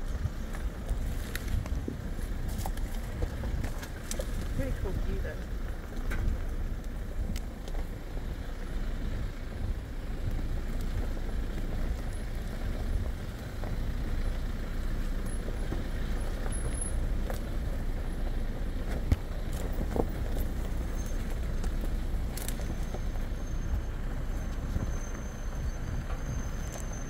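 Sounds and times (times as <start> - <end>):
vehicle engine and tyres rumbling: 0.0 - 27.0.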